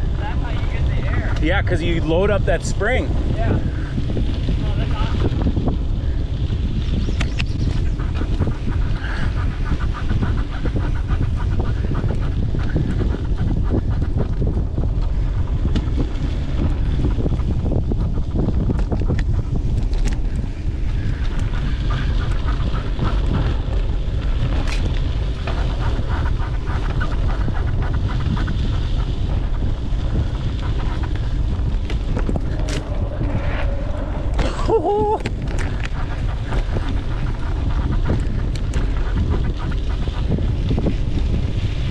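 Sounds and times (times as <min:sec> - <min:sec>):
mountain bike trail rumble: 0:00.0 - 0:41.9
wind buffeting microphone: 0:00.0 - 0:41.9.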